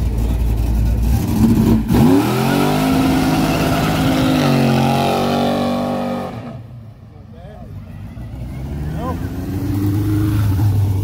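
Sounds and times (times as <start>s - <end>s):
car engine revving: 0.0s - 6.7s, 8.3s - 11.0s.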